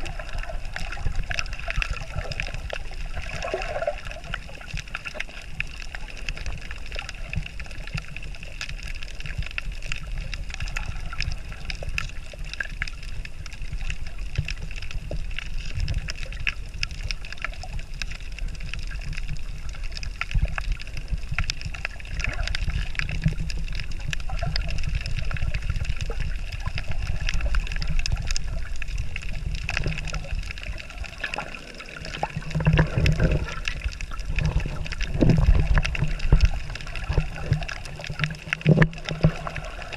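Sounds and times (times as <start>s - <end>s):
faint underwater clicks and crackles: 0.0s - 39.9s
underwater rumble of moving water: 0.0s - 39.9s
water sloshing and bubbling: 0.0s - 39.9s.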